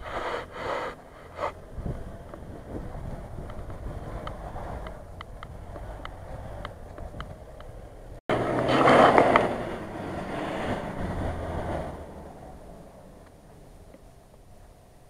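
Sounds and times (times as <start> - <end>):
distant car engine running: 1.0 - 15.0.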